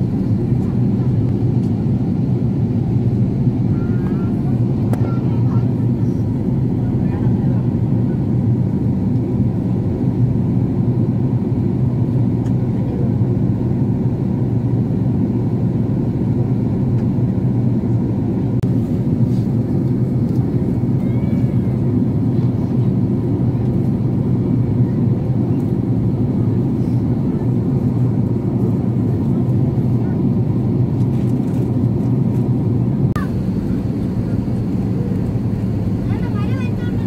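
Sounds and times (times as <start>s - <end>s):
jet cabin engine hum: 0.0s - 37.0s.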